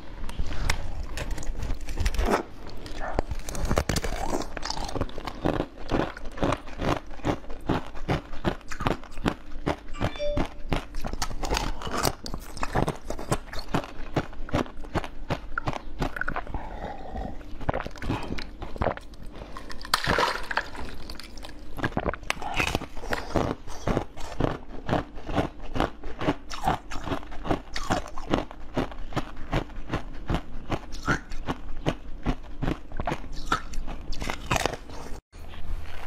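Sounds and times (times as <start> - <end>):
crunching and chewing food: 0.0 - 36.0.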